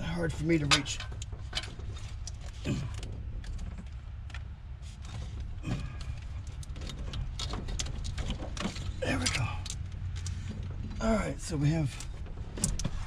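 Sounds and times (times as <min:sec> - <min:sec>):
light clicks and knocks of handling: 0:00.0 - 0:11.1, 0:11.8 - 0:13.0
steady low rumble: 0:00.0 - 0:13.0.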